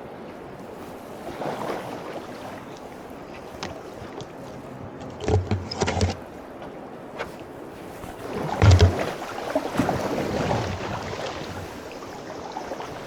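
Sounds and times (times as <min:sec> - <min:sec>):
kayak paddle strokes in water: 0:00.0 - 0:13.0
paddle splashing: 0:00.1 - 0:13.0.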